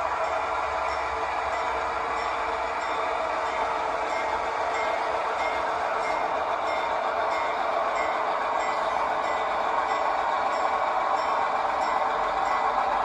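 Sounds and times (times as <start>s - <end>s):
locomotive rumble and hiss: 0.0s - 13.0s.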